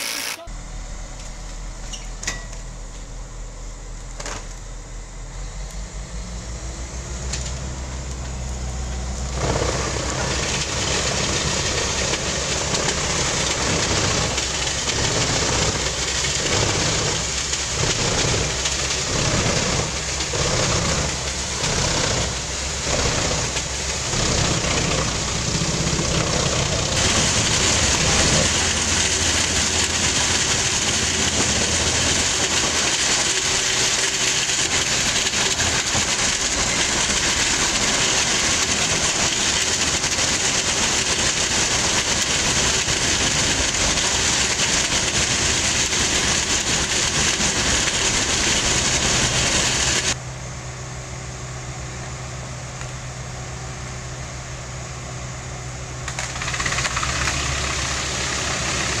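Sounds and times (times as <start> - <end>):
wood chipper chipping logs: 0.0 - 1.7, 5.6 - 50.3, 51.8 - 59.0.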